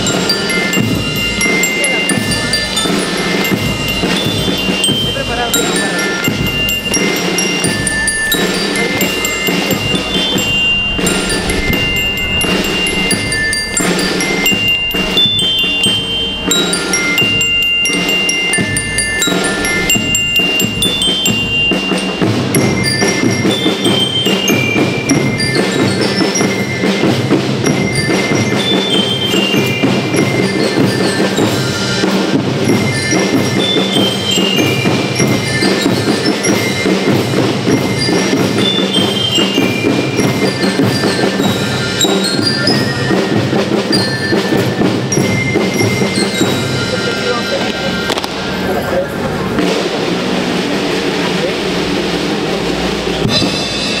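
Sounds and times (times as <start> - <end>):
snare and bass drum rhythm: 0.0 - 47.3
bell lyres playing melody: 0.0 - 54.0.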